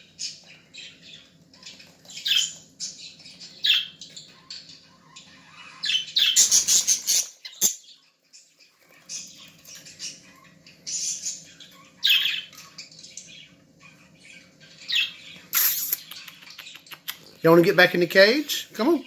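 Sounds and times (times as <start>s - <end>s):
budgerigars squawking and chirping: 0.0s - 19.0s.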